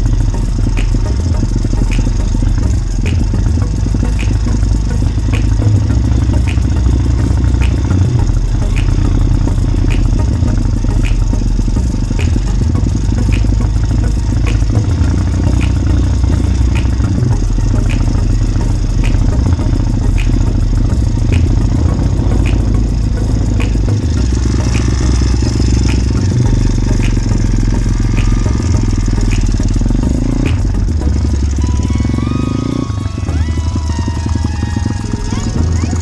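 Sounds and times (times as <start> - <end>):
light regular ticking: 0.0 - 31.4.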